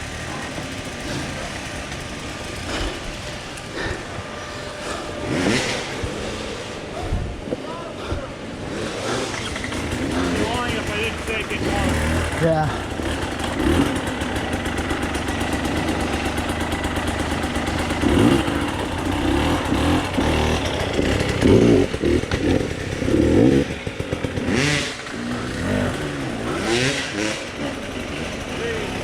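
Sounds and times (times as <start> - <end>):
dirt bike engine revving: 0.0 - 7.6, 8.2 - 29.0.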